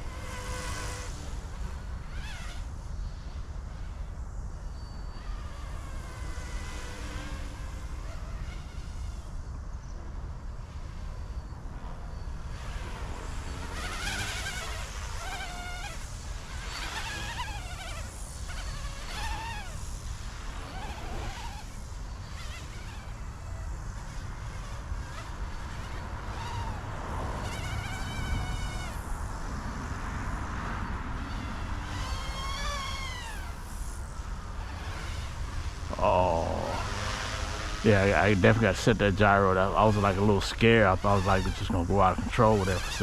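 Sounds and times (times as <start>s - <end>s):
rc helicopter motor whining: 0.0s - 43.0s.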